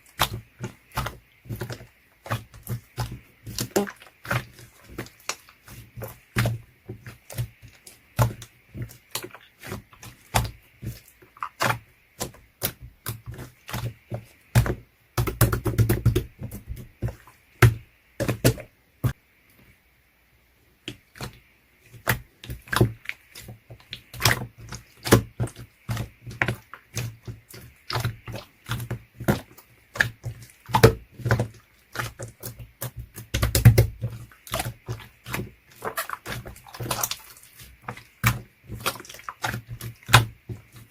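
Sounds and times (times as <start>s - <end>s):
slime squelching: 0.0s - 19.8s, 20.7s - 40.9s.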